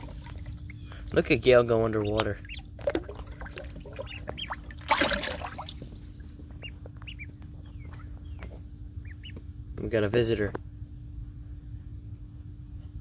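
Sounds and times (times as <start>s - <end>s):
ducklings peeping: 0.0s - 10.5s.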